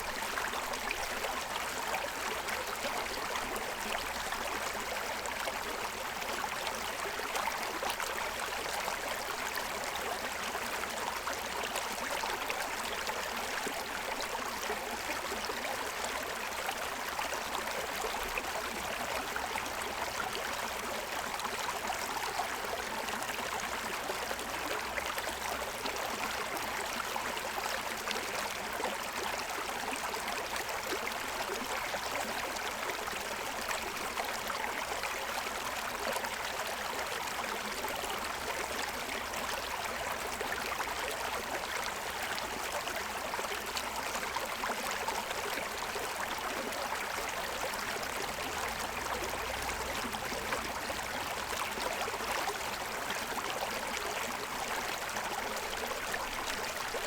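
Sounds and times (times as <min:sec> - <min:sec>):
stream over stones: 0:00.0 - 0:57.0.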